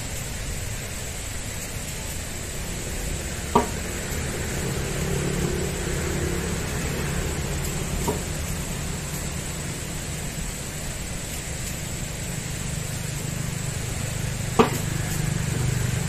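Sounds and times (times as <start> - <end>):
outdoor background hiss: 0.0 - 16.0
road traffic rumble: 0.0 - 16.0
vehicle engine hum: 0.0 - 16.0.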